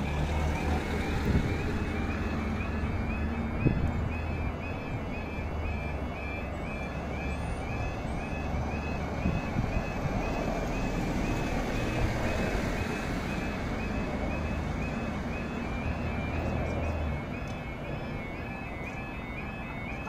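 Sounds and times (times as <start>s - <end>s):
level crossing alarm warbling: 0.0s - 20.0s.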